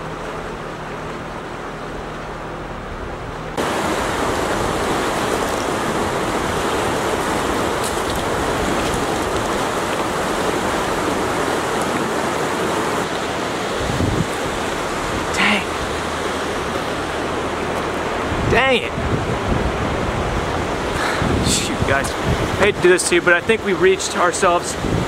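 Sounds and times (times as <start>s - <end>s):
whitewater rushing over boulders: 3.5s - 25.0s.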